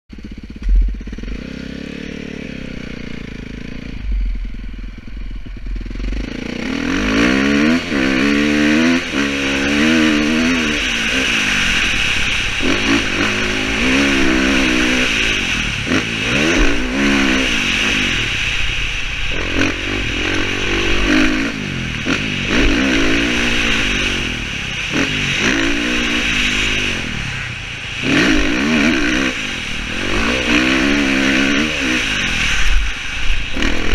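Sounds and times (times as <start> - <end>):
dirt bike engine revving: 0.1 - 33.9
wind rushing over microphone: 0.6 - 33.9.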